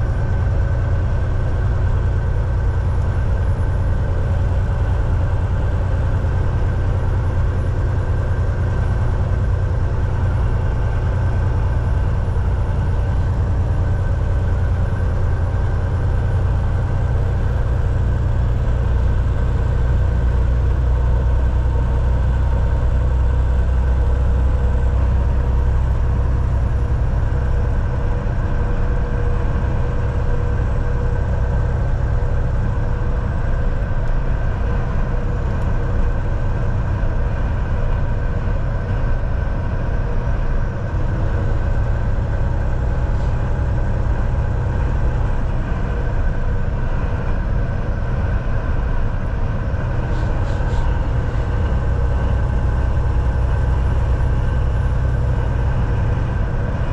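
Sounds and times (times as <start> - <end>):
road rumble: 0.0 - 56.9
truck engine drone: 0.0 - 56.9.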